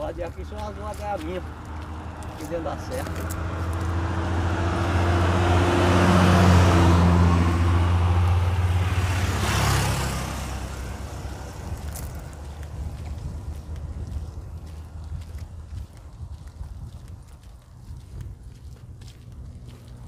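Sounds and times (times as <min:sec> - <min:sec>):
motorcycle passing: 0:00.0 - 0:20.0
vehicle engine and tyre noise: 0:00.0 - 0:20.0.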